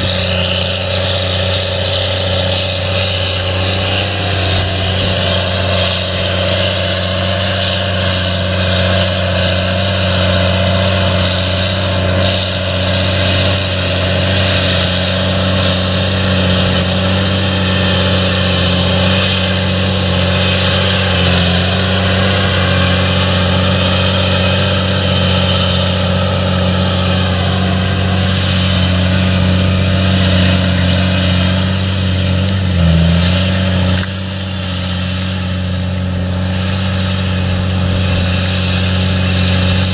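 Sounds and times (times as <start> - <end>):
loud low engine drone: 0.0 - 39.9.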